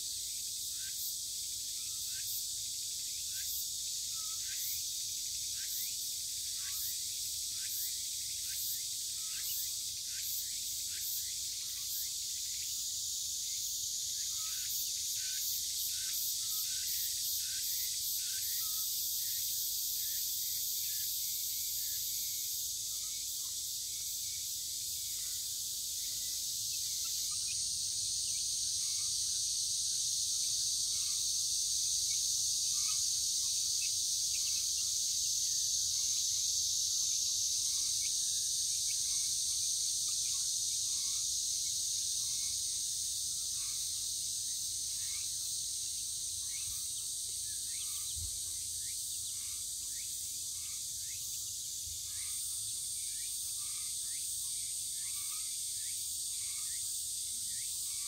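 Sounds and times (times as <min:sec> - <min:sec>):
cicadas chorus: 0:00.0 - 0:58.0.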